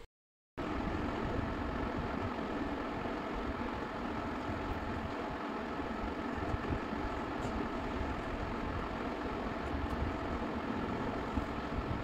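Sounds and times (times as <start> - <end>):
steady machine hum: 0.6 - 12.0.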